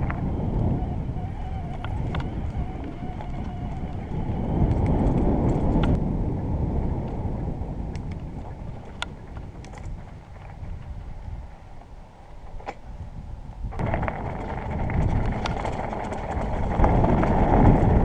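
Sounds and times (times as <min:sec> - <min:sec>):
bike clicks and rattles: 0:00.0 - 0:06.0, 0:07.9 - 0:11.1, 0:11.7 - 0:13.0, 0:13.7 - 0:18.0
bike rolling over dirt track: 0:00.0 - 0:11.4, 0:13.7 - 0:18.0
wind buffeting microphone: 0:00.0 - 0:18.0.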